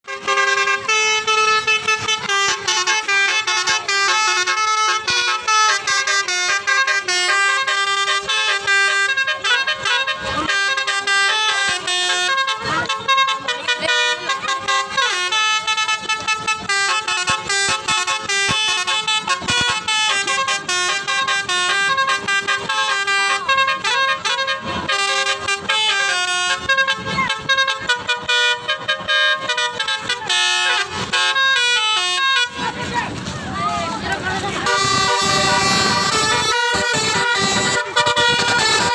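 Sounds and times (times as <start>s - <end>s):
musical vehicle horn tune: 0.0s - 38.9s.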